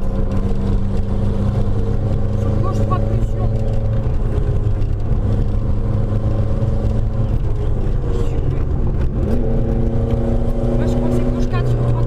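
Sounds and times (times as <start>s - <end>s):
car engine under load: 0.0s - 12.0s.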